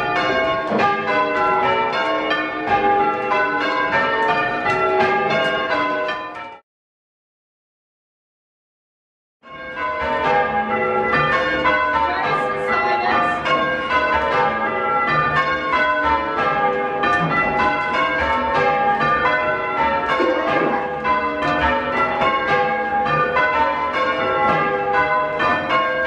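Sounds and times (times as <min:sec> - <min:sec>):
church bells ringing: 0:00.0 - 0:06.6, 0:09.4 - 0:26.0.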